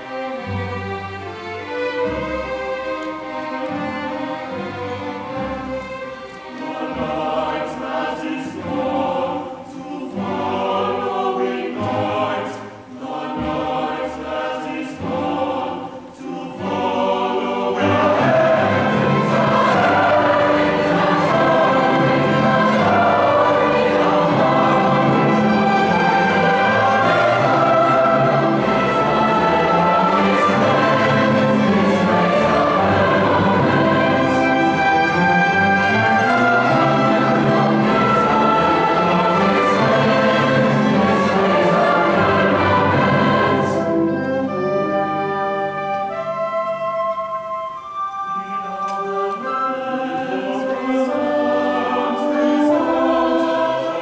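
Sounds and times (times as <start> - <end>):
choir singing with orchestra: 0.0 - 54.0.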